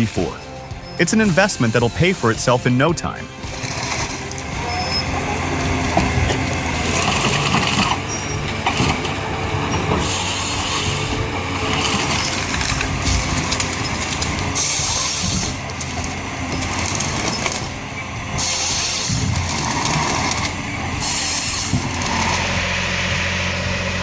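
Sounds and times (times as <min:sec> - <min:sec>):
harvester engine running: 0:00.0 - 0:24.0
hiss bursts: 0:00.0 - 0:24.0.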